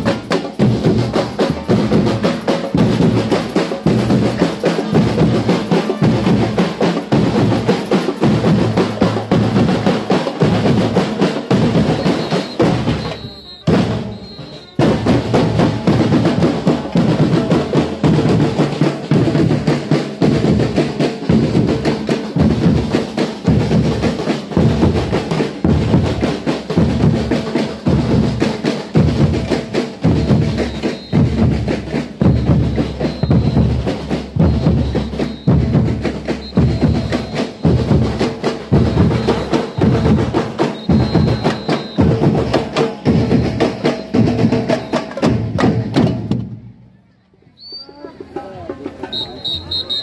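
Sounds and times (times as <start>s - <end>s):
drum band playing: 0.0s - 46.8s, 48.0s - 50.0s.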